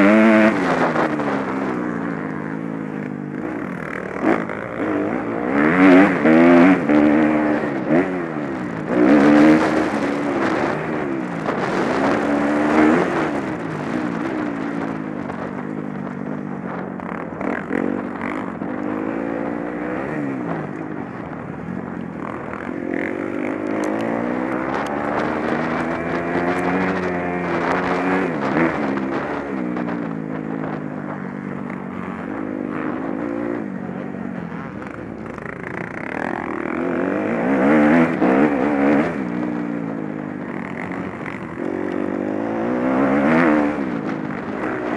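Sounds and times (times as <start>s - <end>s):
motorbike engines revving: 0.0s - 44.9s.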